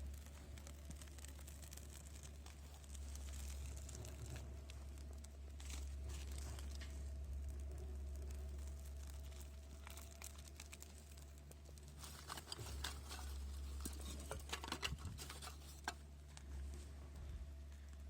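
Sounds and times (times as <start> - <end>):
crinkling and rustling: 0.0 - 18.0
faint low hum: 0.0 - 18.0
small sharp clicks and crackles: 0.0 - 18.0.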